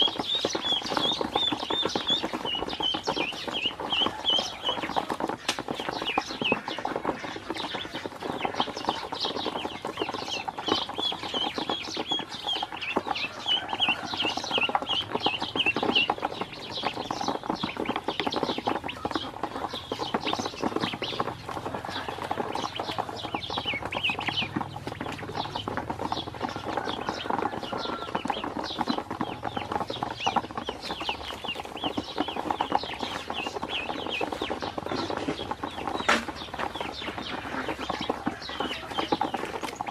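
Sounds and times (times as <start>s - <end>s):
bills pecking plastic basin: 0.0s - 39.9s
ducklings peeping: 0.0s - 39.9s.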